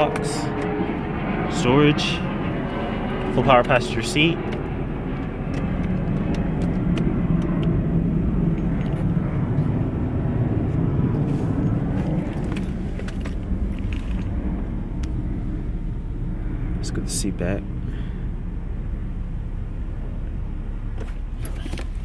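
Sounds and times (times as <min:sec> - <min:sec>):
car mechanical hum: 0:00.0 - 0:22.0.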